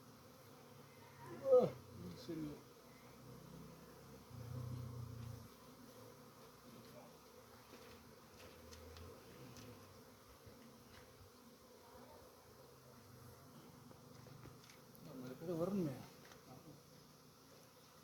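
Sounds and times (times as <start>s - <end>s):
flying insect buzzing: 0.0s - 18.0s.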